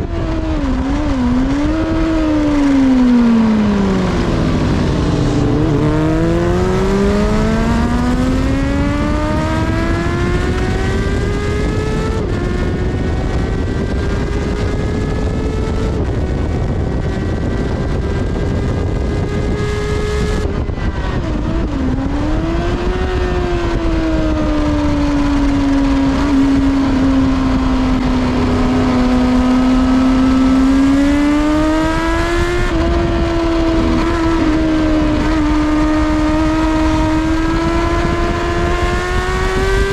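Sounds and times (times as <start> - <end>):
motorcycle engine revving: 0.0 - 39.9
rush of wind and road noise: 0.0 - 39.9.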